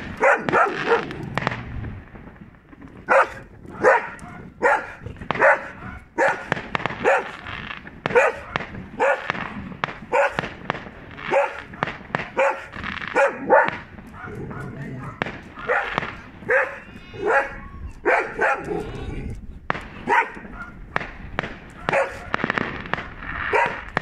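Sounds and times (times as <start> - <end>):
fireworks popping and crackling: 0.0 - 24.0
dog barking: 0.1 - 1.2, 3.0 - 9.4, 10.0 - 10.6, 11.2 - 19.2, 20.0 - 24.0.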